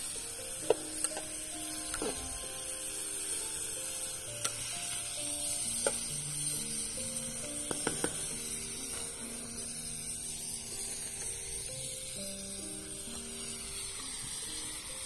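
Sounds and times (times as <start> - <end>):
food sizzling over campfire: 0.0 - 15.0
soft slow background music: 0.0 - 15.0.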